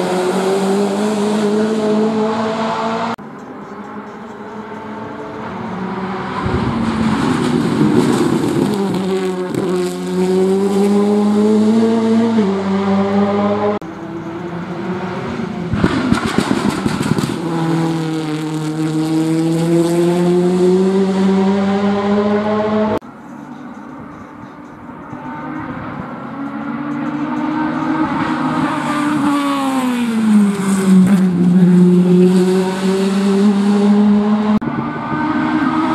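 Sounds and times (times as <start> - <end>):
racing car engines at high revs: 0.0 - 23.0, 24.0 - 35.9.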